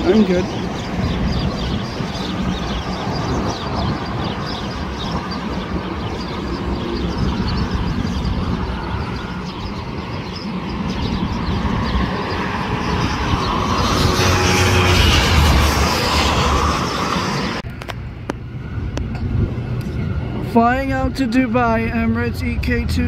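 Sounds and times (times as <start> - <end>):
distant jet engines rumbling: 0.0 - 23.0.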